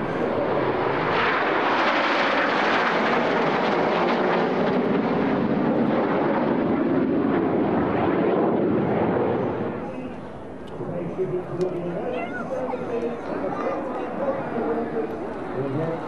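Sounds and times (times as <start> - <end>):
jets passing overhead: 0.0 - 16.0.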